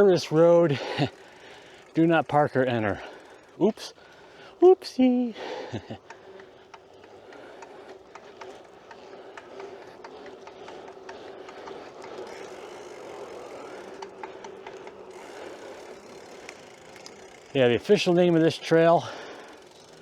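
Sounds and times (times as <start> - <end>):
bike clicks and rattles: 0.0 - 20.0
bike rolling noise with hum: 0.0 - 20.0.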